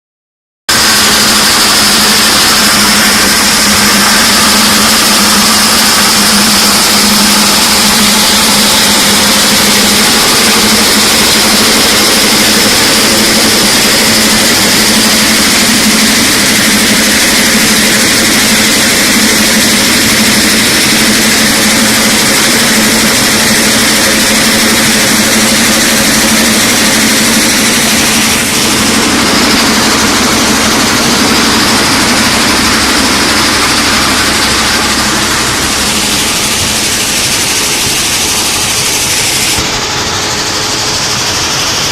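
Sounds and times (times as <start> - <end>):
sand washing machinery running: 0.7 - 41.9.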